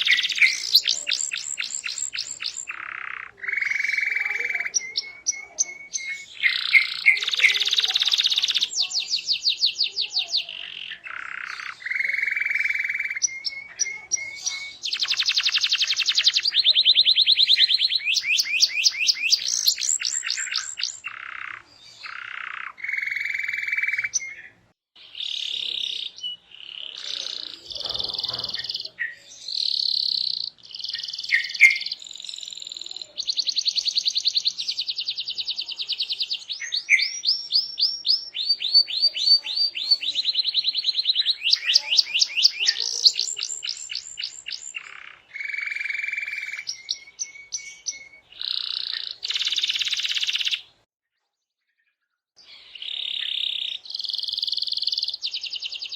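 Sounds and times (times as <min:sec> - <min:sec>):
canary singing: 0:00.0 - 0:50.8, 0:52.4 - 0:55.9.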